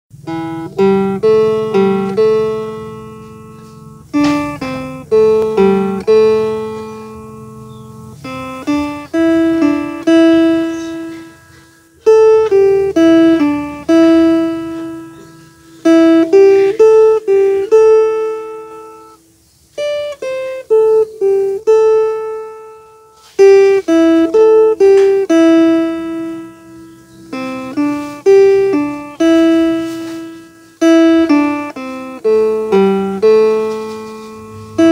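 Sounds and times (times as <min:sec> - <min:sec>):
plucked lute melody: 0:00.1 - 0:34.9.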